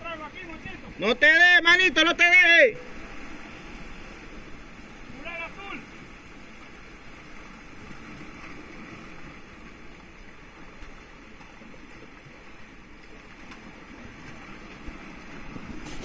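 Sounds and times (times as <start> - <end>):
sea water washing against rocks: 1.9 - 16.0.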